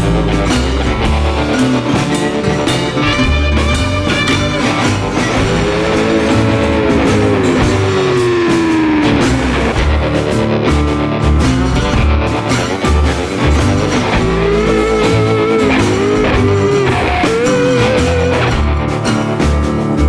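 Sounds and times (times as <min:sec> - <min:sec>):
rock music with sliding guitar: 0:00.0 - 0:20.0.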